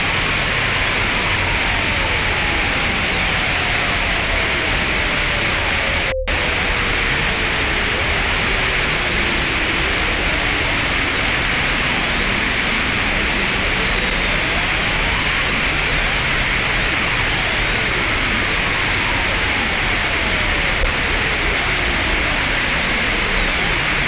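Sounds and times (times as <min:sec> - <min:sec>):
steady high whine: 0:00.0 - 0:24.0
synthesized static hiss: 0:00.0 - 0:24.0.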